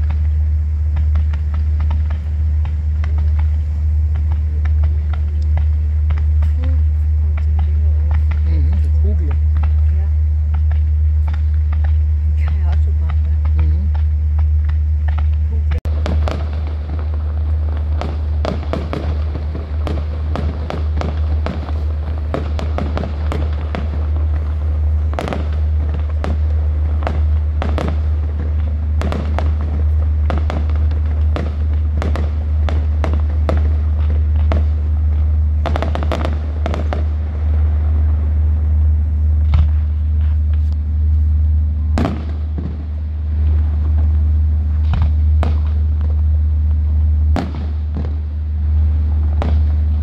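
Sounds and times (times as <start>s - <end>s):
fireworks bangs and crackles: 0.0s - 50.0s
steady low hum: 0.0s - 50.0s.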